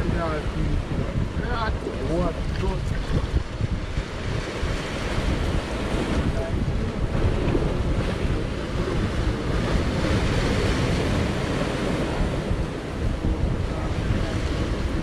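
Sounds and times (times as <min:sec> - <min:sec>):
waves breaking on rocks: 0:00.0 - 0:15.0
wind buffeting microphone: 0:00.0 - 0:15.0.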